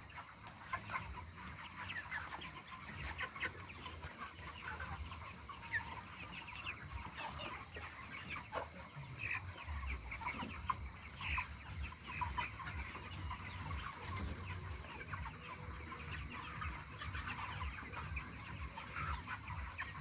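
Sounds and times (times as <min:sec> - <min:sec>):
chickens calling: 0:00.0 - 0:20.0.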